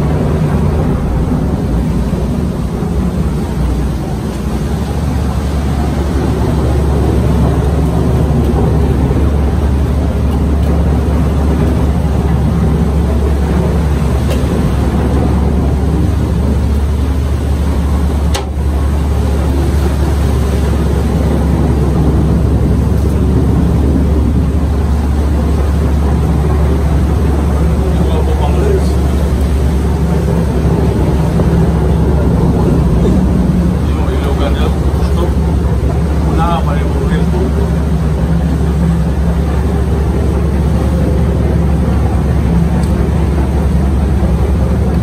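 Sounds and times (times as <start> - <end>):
boat engine humming: 0.0 - 45.0.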